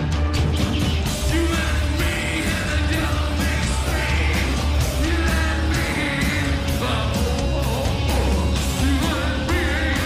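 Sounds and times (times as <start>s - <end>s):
pounding drumbeat: 0.0s - 10.0s
rock band playing loud: 0.0s - 10.0s
man singing and yelling: 1.1s - 10.0s.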